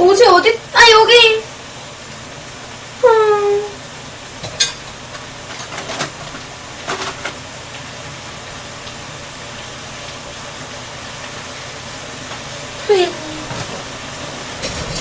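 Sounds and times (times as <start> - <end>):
rice sizzling in a wok: 0.0 - 15.0.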